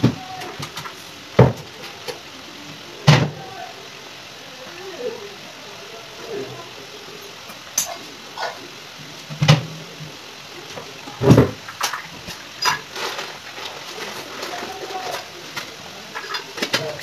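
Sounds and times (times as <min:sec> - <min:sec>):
gravy simmering with pops: 0:00.0 - 0:17.0.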